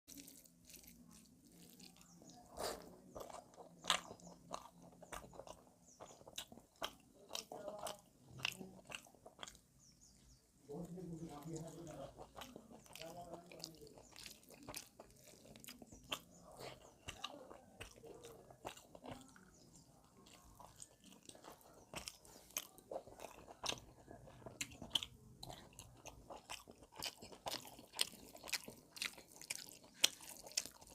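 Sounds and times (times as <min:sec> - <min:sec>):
chewing and biting food: 0:00.1 - 0:10.1, 0:10.7 - 0:30.9.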